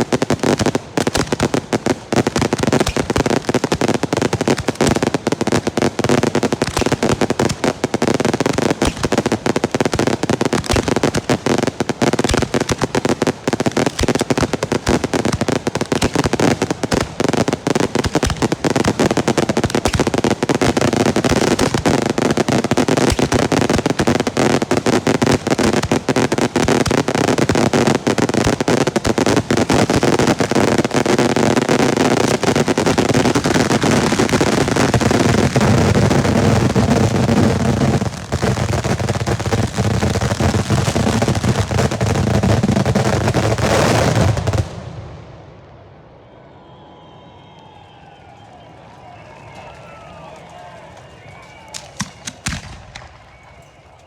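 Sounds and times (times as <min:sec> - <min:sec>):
rapid firecracker bangs: 0:00.0 - 0:45.2, 0:49.0 - 0:54.0.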